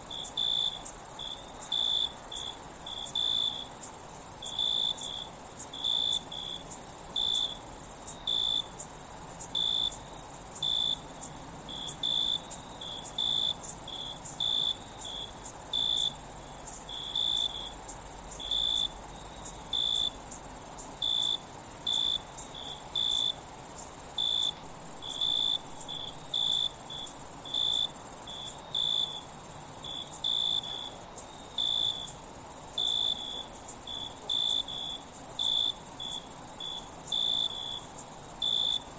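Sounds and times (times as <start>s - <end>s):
crickets trilling: 0.0s - 38.9s
lower insect chirp: 0.0s - 38.9s.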